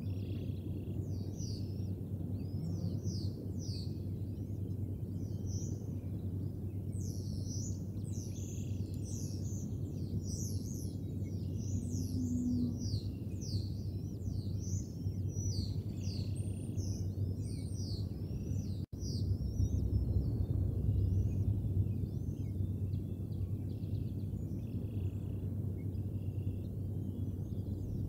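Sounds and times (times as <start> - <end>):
birds chirping: 0.0 - 28.0
low rumble: 0.0 - 28.0.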